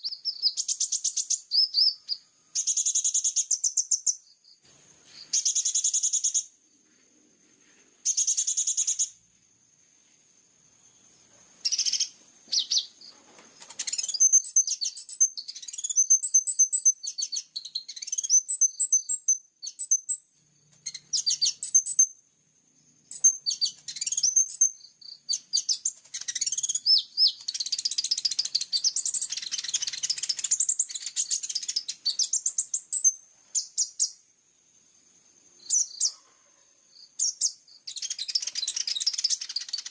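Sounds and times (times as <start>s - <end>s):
bird singing rapid rattling trills: 0.0s - 4.6s, 5.2s - 6.5s, 8.0s - 9.2s, 11.6s - 34.2s, 35.6s - 36.3s, 37.0s - 39.9s.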